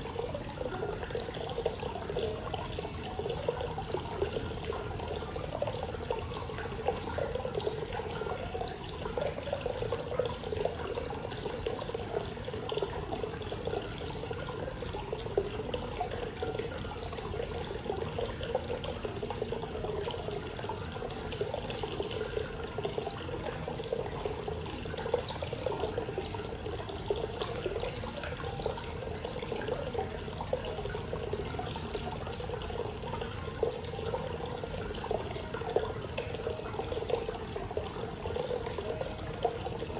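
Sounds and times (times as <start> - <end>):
cicada chorus: 0.0 - 39.9
water pouring into bath: 0.0 - 39.9.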